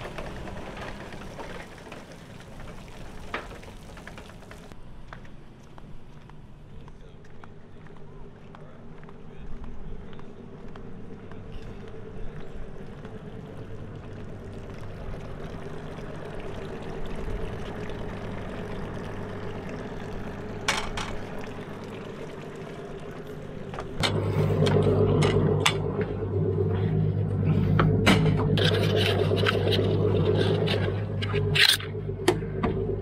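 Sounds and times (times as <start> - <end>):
outboard motor idling: 0.0 - 4.8, 11.2 - 33.0.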